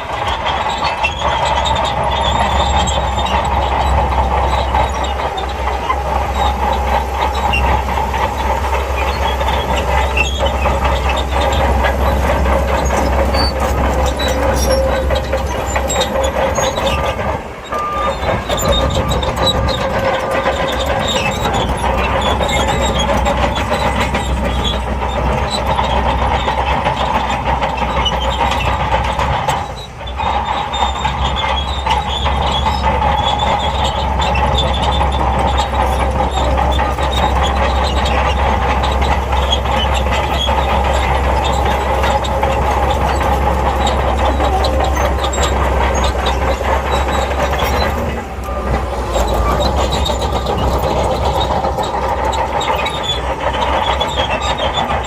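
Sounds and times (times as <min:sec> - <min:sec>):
bulldozer engine running: 0:00.0 - 0:55.0
steel tracks clattering: 0:00.0 - 0:55.0.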